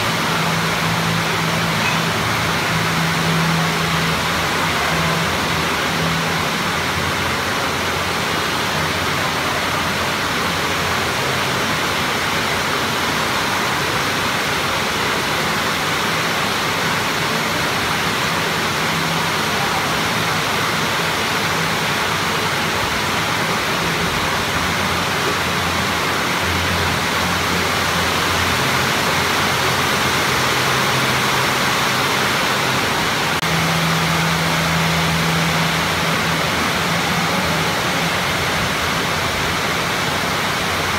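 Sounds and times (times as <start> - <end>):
loud rushing noise: 0.0 - 40.9.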